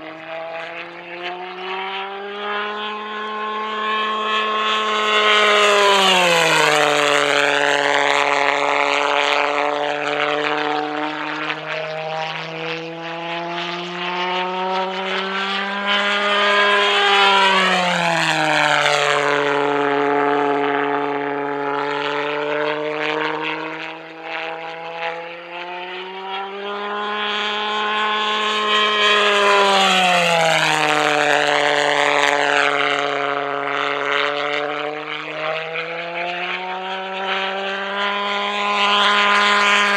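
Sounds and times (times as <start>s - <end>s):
model jet engine buzzing past: 0.0s - 39.9s.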